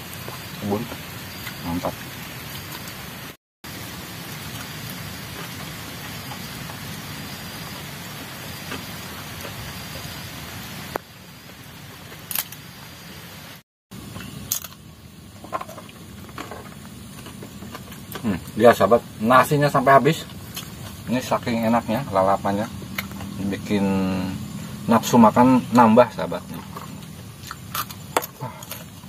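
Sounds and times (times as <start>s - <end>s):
light drizzle hissing: 0.0s - 29.0s.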